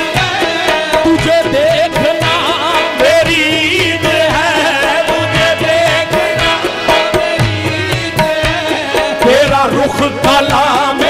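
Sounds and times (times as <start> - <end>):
harmonium held notes: 0.0 - 11.0
person singing: 0.0 - 11.0
tabla rhythm: 0.0 - 11.0.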